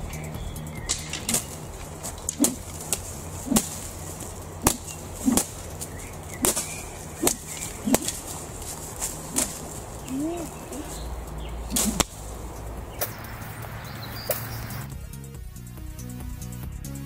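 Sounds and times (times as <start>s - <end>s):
stick swishing through air: 0.8s - 14.8s.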